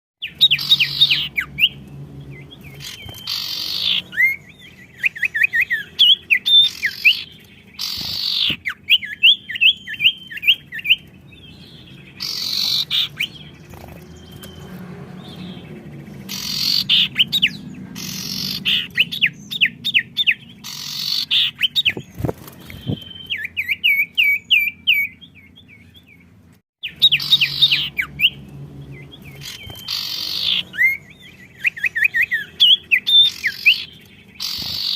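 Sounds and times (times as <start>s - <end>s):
songbirds singing: 0.2s - 34.9s.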